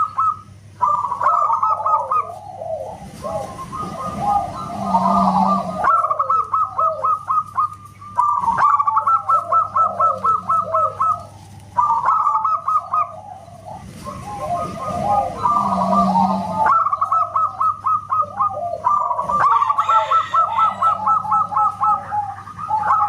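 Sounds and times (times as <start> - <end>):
doves cooing: 0.0 - 23.0.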